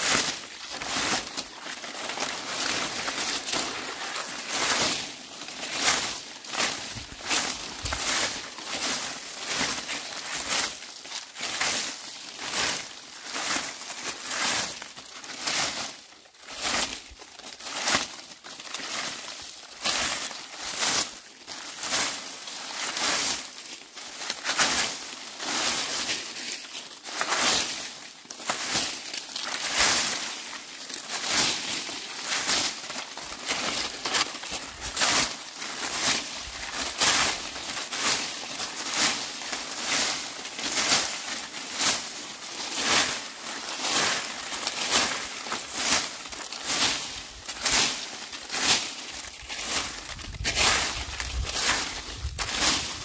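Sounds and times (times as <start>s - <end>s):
broom sweeping dry leaves: 0.0s - 53.0s.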